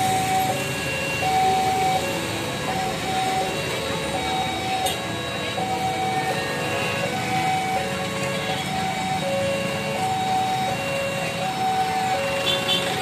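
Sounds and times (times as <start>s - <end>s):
motorcycles and cars: 0.0s - 13.0s
two-tone crossing alarm chime: 0.0s - 13.0s.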